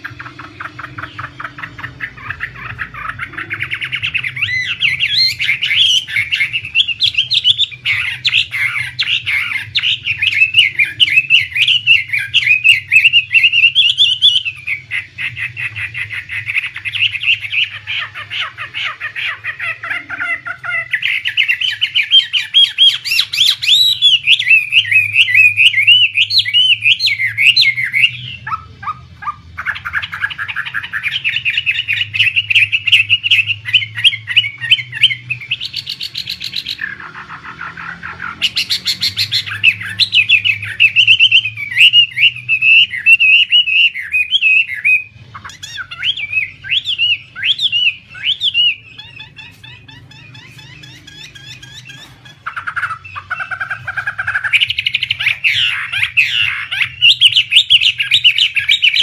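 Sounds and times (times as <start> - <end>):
songbird warbling and whistling: 0.0 - 59.0.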